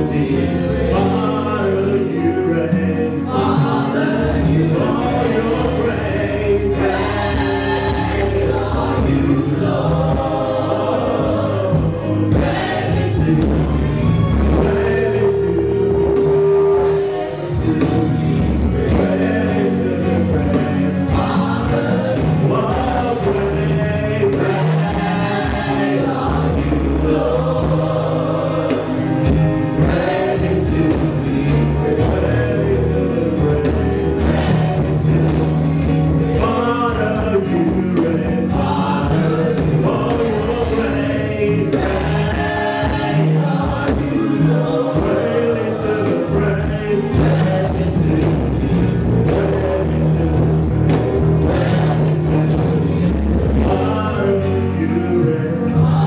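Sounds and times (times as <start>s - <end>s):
band with steady bass: 0.0s - 56.0s
group of voices singing: 0.0s - 56.0s.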